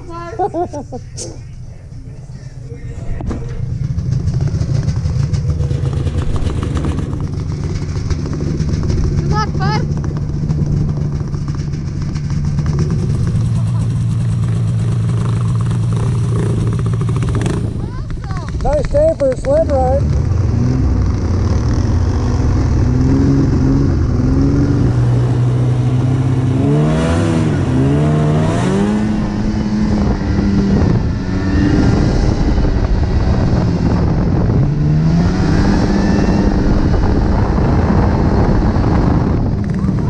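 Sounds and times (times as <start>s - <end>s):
snowmobile engine revving: 2.9s - 40.0s
wind noise on microphone: 4.4s - 40.0s.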